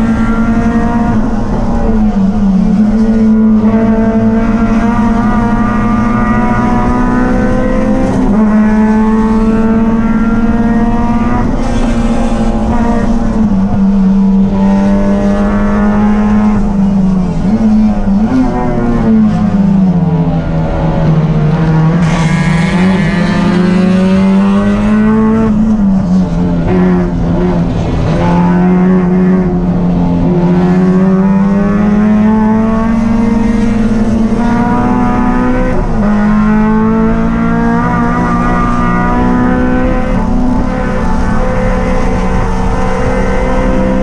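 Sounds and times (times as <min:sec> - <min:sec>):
race car engine accelerating: 0:00.0 - 0:44.0.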